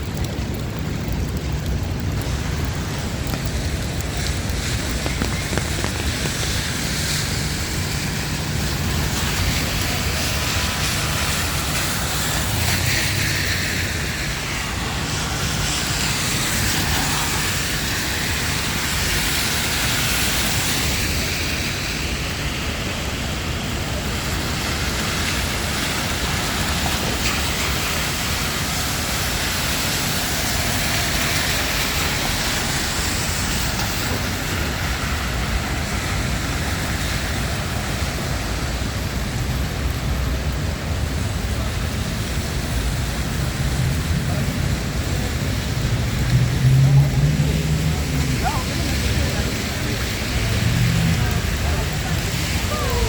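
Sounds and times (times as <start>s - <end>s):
traffic hiss on wet pavement: 0.0s - 53.0s.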